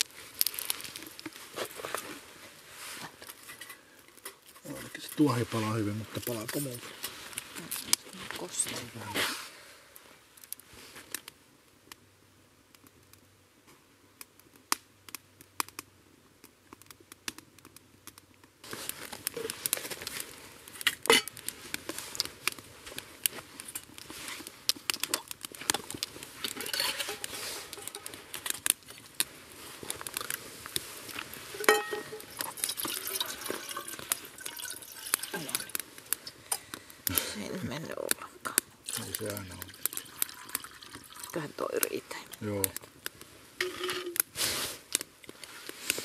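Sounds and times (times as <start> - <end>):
twig fire crackling: 0.0 - 46.0.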